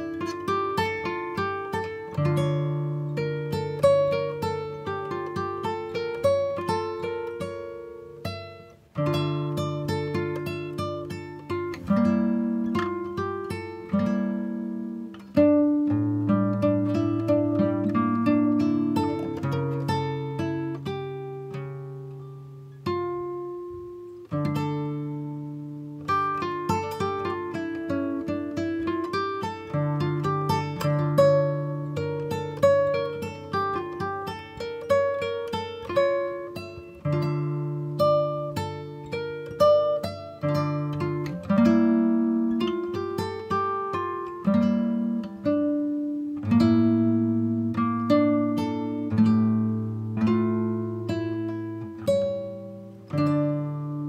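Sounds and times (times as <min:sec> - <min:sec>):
slow acoustic guitar music: 0:00.0 - 0:54.0.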